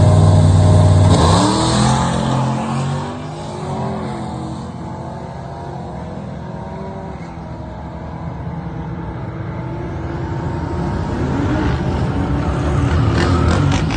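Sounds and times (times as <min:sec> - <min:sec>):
distant drag car engines droning: 0:00.0 - 0:13.9.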